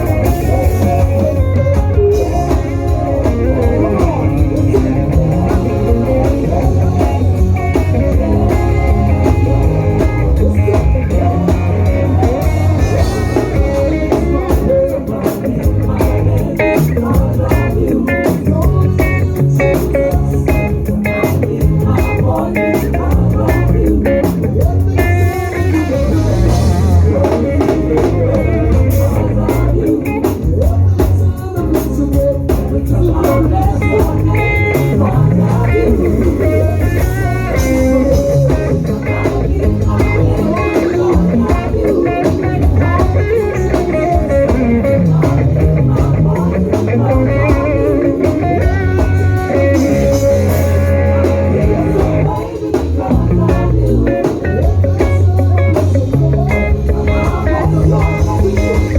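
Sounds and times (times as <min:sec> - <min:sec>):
electric guitar: 0:00.0 - 0:58.9
live band playing worship music: 0:00.0 - 0:58.9
people singing: 0:00.0 - 0:58.9.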